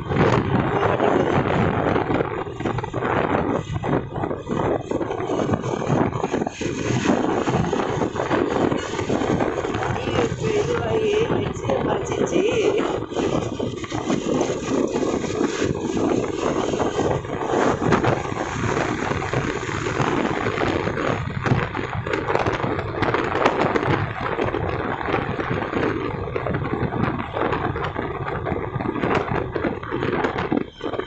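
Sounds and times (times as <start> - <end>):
motorcycle engine drone: 0.0 - 31.0
wind rushing over microphone: 0.0 - 31.0.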